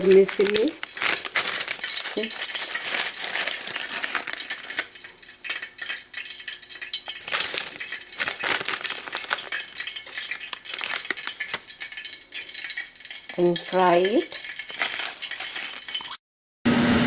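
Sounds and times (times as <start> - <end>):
dry noodles rattling and clinking: 0.0 - 16.2.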